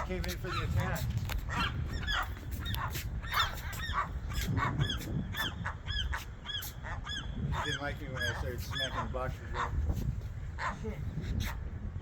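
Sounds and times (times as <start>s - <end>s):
gulls alarm calls: 0.0s - 11.6s.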